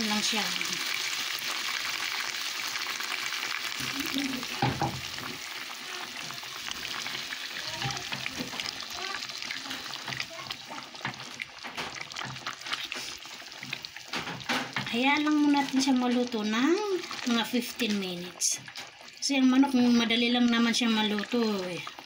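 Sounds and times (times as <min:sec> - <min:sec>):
curry sizzling and bubbling in a pot: 0:00.0 - 0:22.0.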